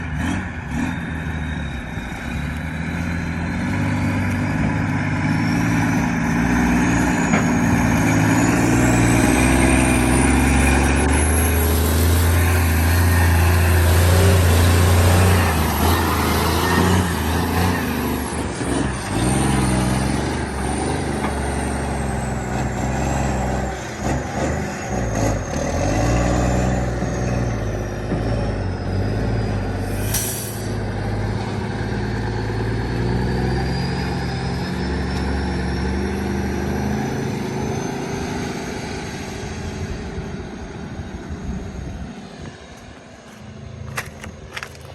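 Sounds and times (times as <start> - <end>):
diesel truck engine under load: 0.0 - 44.9.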